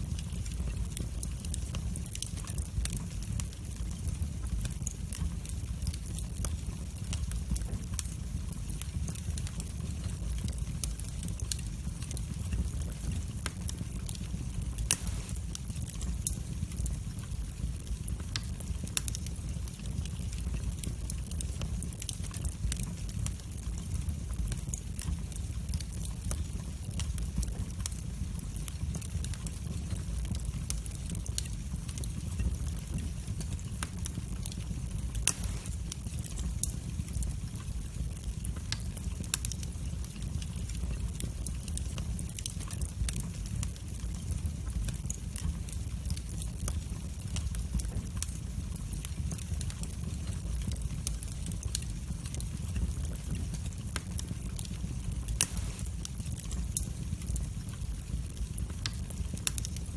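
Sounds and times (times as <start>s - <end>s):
fire flames rumbling: 0.0s - 59.9s
wood fire crackling and popping: 0.0s - 59.9s.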